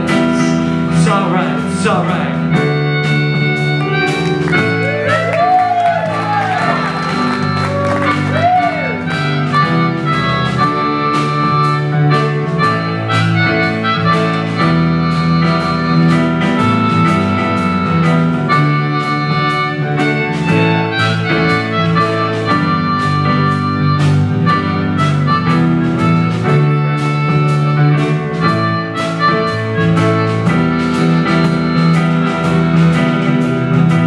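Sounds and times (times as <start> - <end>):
accordion playing held chords: 0.0 - 5.6, 6.2 - 34.0.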